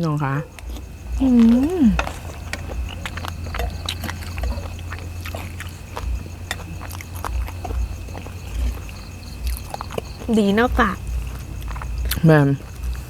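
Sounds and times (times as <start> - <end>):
soft low thumps: 0.0 - 13.0
wet chewing and lip-smacking: 0.3 - 13.0.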